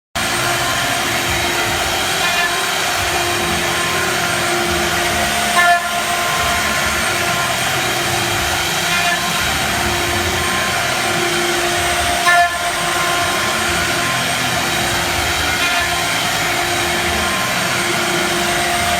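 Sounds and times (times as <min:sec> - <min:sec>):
cutter engraving wood: 0:00.2 - 0:18.9
router spindle whining: 0:00.2 - 0:18.9.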